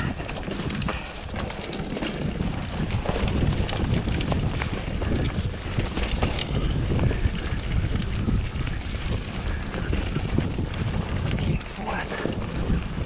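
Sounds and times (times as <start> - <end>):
stones and bike rattling: 0.0 - 13.0
tyres rolling on dirt: 0.0 - 13.0
wind on microphone: 0.0 - 13.0.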